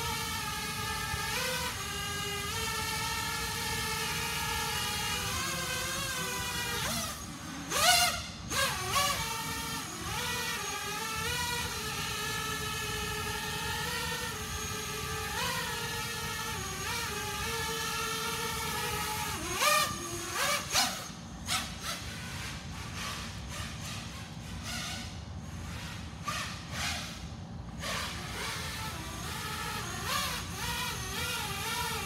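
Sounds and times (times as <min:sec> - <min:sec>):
drone motors whining: 0:00.0 - 0:32.0
short bursts of motor sound: 0:00.0 - 0:32.0.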